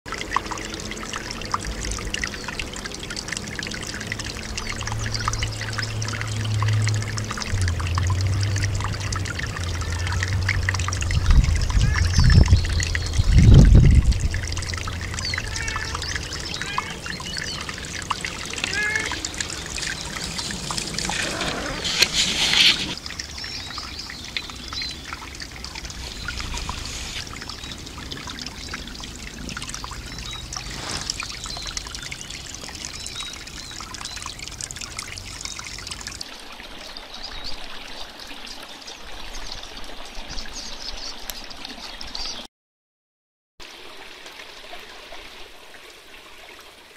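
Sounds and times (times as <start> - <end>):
brook trickling over rocks: 0.1 - 42.5, 43.6 - 46.9.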